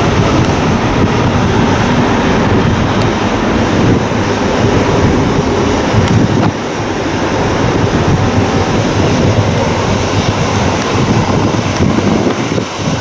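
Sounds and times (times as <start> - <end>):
jet aircraft engines: 0.0 - 13.0
wind buffeting microphone: 0.0 - 13.0.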